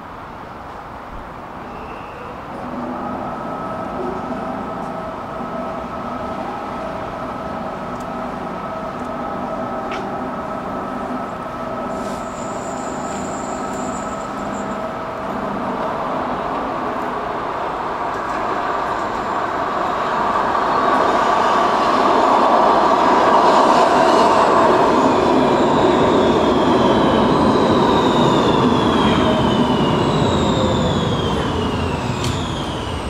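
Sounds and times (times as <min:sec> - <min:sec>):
metro train rail and motor hum: 0:00.0 - 0:33.0.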